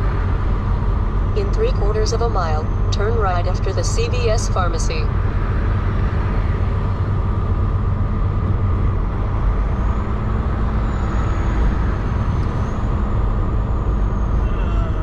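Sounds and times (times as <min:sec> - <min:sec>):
diesel engine rumble in cab: 0:00.0 - 0:15.0
road noise: 0:00.0 - 0:15.0.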